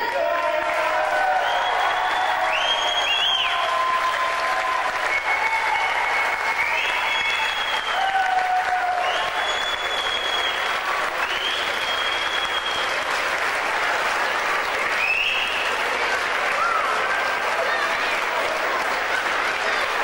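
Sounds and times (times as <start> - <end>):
crowd applauding: 0.0 - 20.0
crowd cheering: 0.0 - 20.0.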